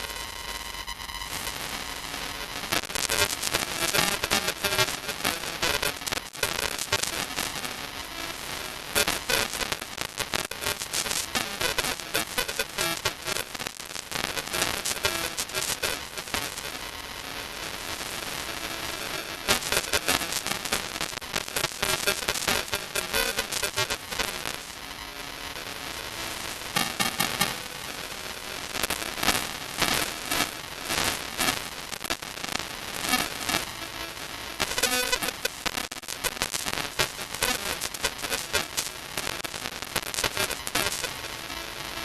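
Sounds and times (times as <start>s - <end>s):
crackling static: 0.0s - 42.0s
garbled distorted broadcast sound: 0.0s - 42.0s.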